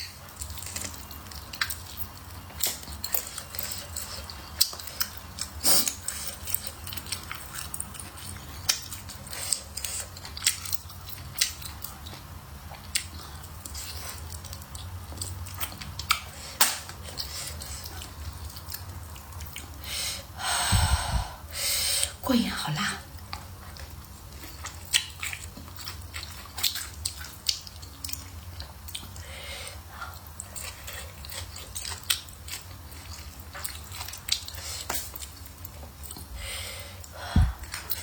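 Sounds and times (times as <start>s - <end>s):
person chewing food: 0.0s - 22.1s, 23.1s - 38.0s.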